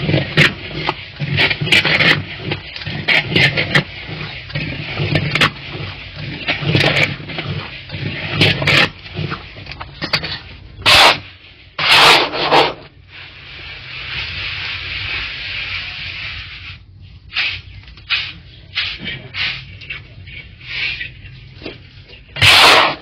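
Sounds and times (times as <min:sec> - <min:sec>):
metal scraper scraping grain in pan: 0:00.0 - 0:12.9, 0:17.3 - 0:23.0.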